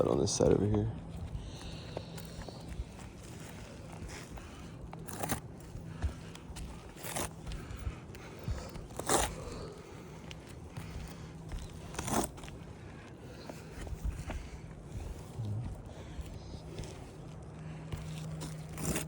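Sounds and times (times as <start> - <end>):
faint low hum: 0.0 - 19.0
footsteps on gritty surface: 0.0 - 19.0.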